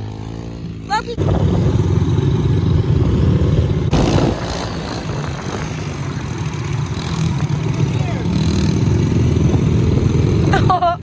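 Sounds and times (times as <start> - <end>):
pit bike engines running: 0.0 - 11.0.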